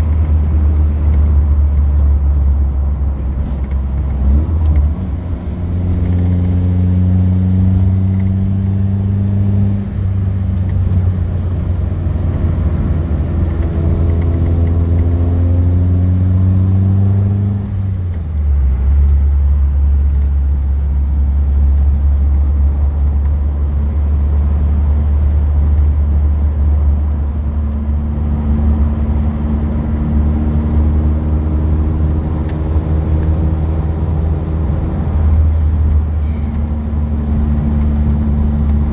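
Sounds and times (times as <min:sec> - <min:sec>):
car engine accelerating: 0:00.0 - 0:38.9
road rumble: 0:00.0 - 0:38.9.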